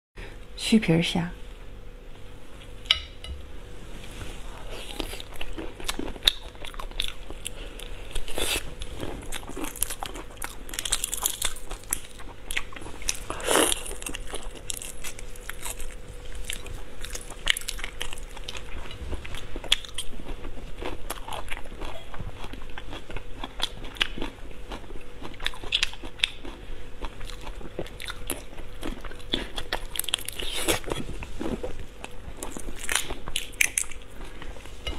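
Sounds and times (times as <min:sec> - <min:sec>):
wet chewing: 0:04.8 - 0:34.9.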